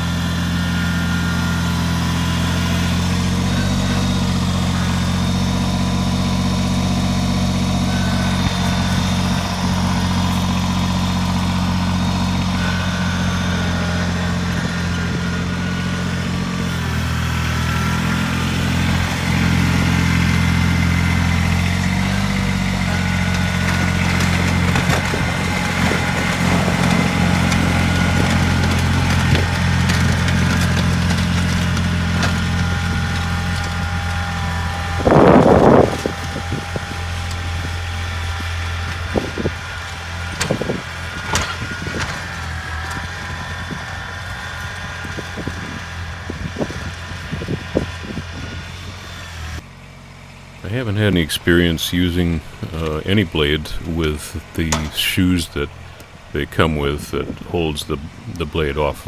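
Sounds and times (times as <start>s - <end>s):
rough noise: 0.0s - 49.6s, 50.6s - 59.0s
tractor diesel engine running: 0.0s - 59.0s.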